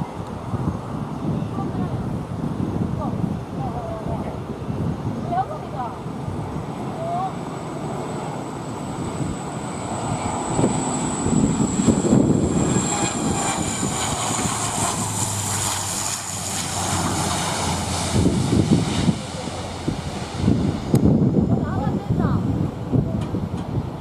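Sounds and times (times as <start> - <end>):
airliner engines whining: 0.0 - 24.0
wind on microphone: 0.0 - 24.0.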